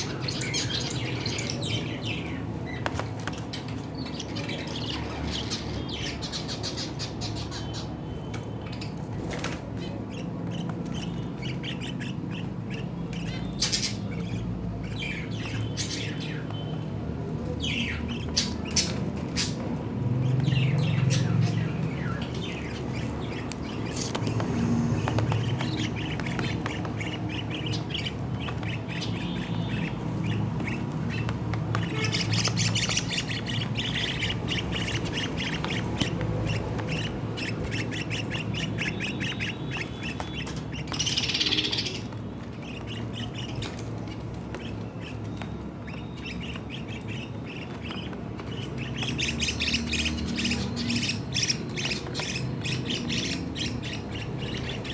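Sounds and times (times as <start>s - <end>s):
lovebirds squawking and chirping: 0.0s - 54.9s.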